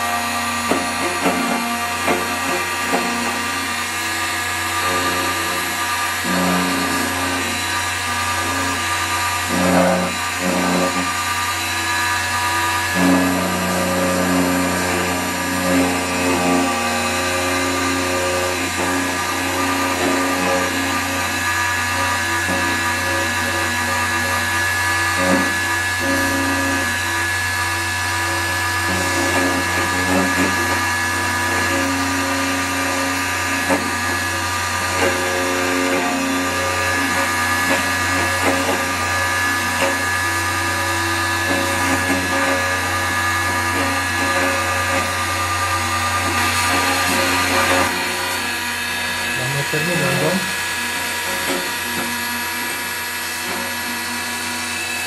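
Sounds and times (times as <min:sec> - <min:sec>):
key cutting machine milling: 0:00.0 - 0:55.0.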